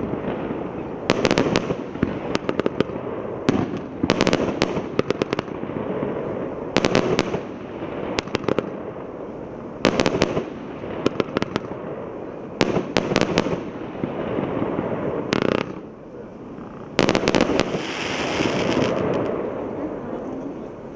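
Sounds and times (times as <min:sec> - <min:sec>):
fireworks bangs: 0:00.0 - 0:20.9
fireworks hiss: 0:00.0 - 0:20.9
hissing crackle: 0:00.0 - 0:20.9.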